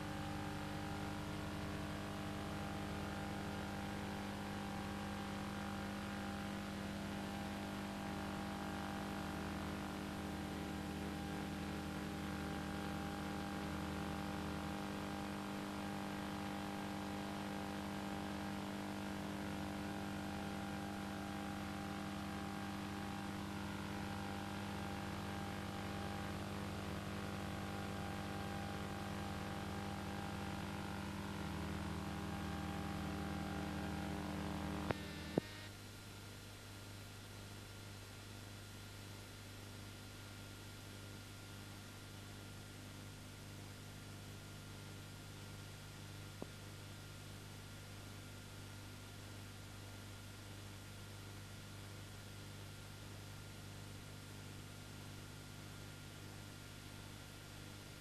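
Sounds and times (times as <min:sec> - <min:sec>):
electrical hum with tones: 0:00.0 - 0:58.0.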